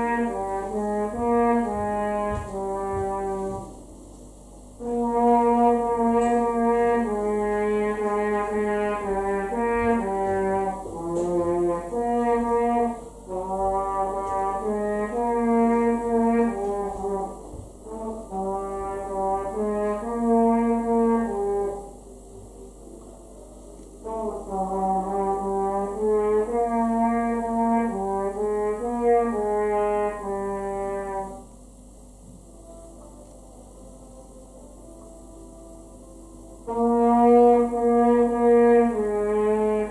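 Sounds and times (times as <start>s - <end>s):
brass horn slow melody: 0.0s - 39.9s.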